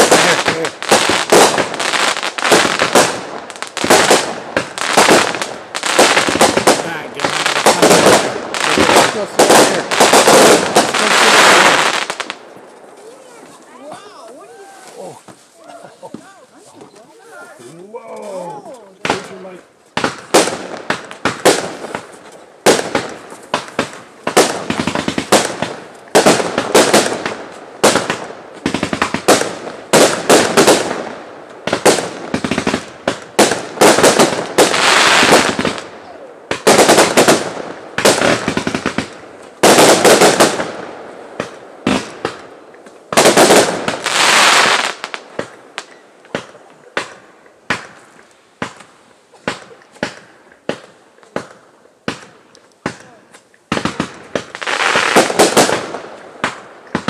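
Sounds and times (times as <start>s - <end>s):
fireworks bangs: 0.0s - 17.7s, 19.0s - 57.0s.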